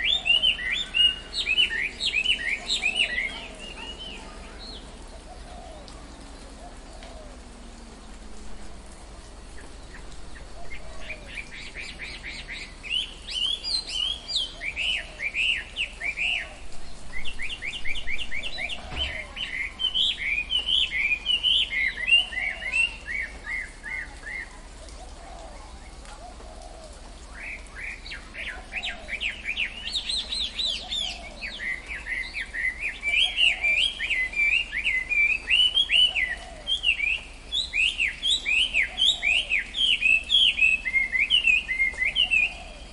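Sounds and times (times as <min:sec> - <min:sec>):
songbirds chirping trills: 0:00.0 - 0:42.9.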